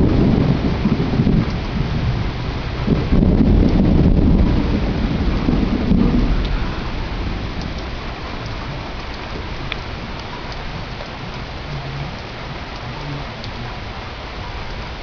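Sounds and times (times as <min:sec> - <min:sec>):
heavy rain falling: 0:00.0 - 0:15.0
low rumble: 0:00.0 - 0:15.0.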